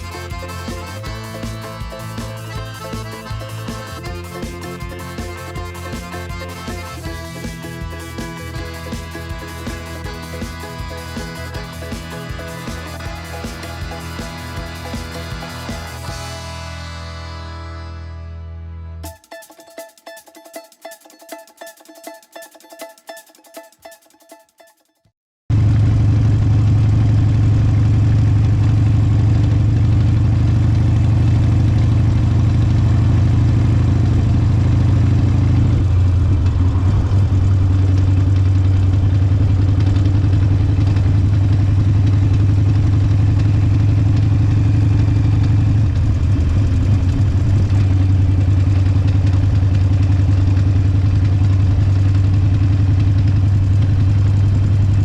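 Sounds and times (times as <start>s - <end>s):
motorcycle engine idling: 0.0s - 17.0s, 25.5s - 55.0s.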